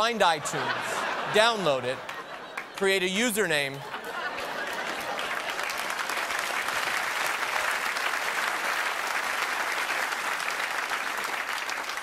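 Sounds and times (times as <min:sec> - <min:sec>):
audience applauding: 0:00.3 - 0:12.0.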